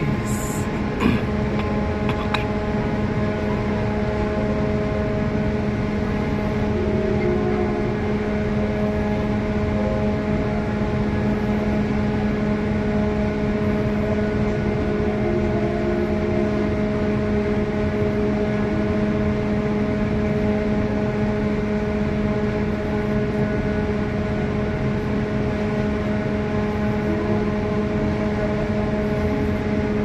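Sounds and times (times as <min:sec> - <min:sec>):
ship machinery hum: 0:00.0 - 0:30.0.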